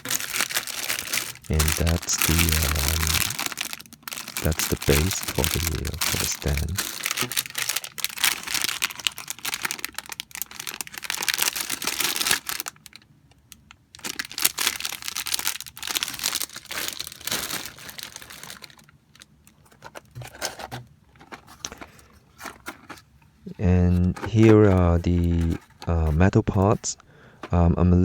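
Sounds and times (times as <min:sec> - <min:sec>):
plastic packaging crinkling: 0:00.0 - 0:27.6.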